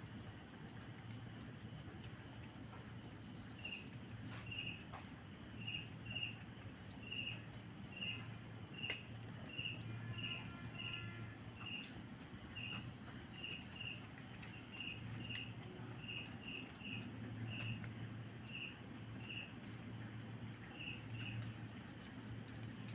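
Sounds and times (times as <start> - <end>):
insect chirping: 0.0 - 22.9.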